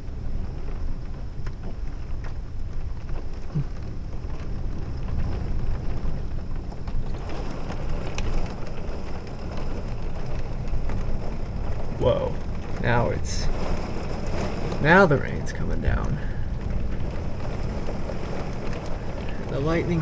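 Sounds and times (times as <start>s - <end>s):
low rumble of thunder: 0.0s - 20.0s
rain: 0.0s - 20.0s
raindrop ticks: 0.0s - 20.0s
wind: 0.0s - 20.0s.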